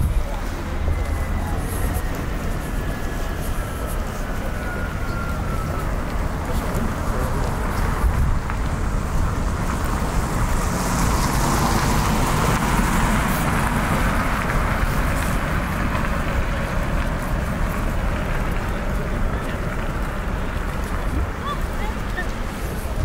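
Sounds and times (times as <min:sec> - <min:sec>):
low traffic rumble: 0:00.0 - 0:23.0
vehicle passing by: 0:00.0 - 0:23.0.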